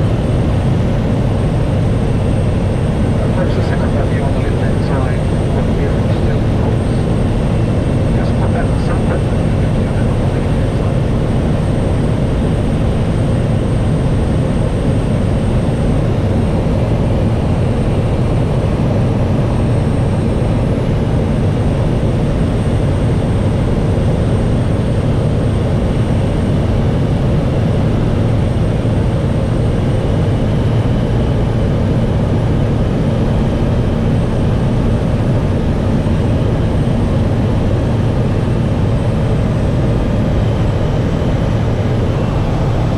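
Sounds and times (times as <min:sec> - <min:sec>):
aircraft engine and propeller drone: 0:00.0 - 0:42.9.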